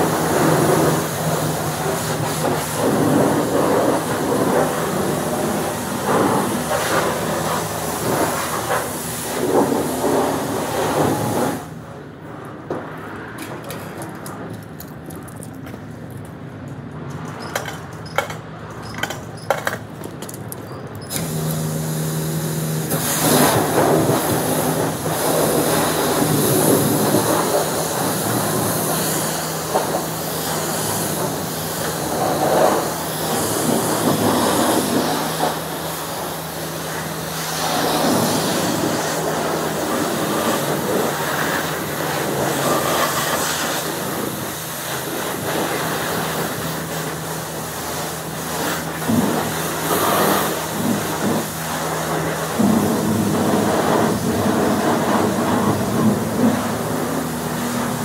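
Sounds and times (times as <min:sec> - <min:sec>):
pressure wand spraying water: 0:00.0 - 0:11.7, 0:21.0 - 0:58.0
pump hum: 0:00.0 - 0:11.8, 0:21.0 - 0:58.0.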